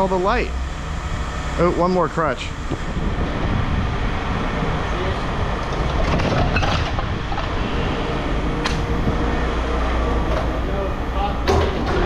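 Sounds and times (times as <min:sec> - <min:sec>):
machinery rumbling: 0:00.0 - 0:12.0.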